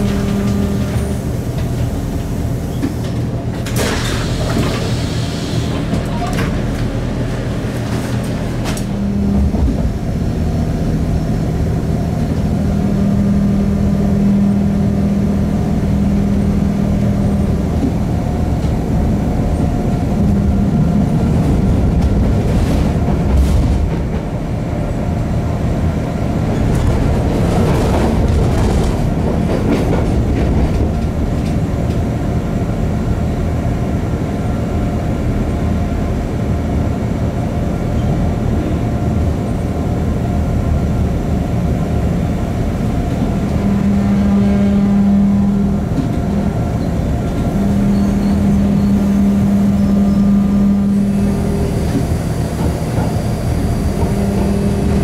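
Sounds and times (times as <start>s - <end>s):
metro car hum: 0.0s - 55.0s
wheels rumbling on track: 0.0s - 55.0s.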